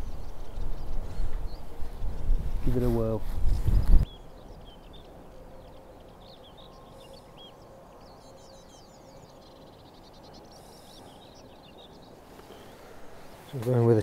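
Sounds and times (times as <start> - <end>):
low outdoor hiss: 0.0 - 14.0
small birds chirping and trilling: 0.0 - 14.0.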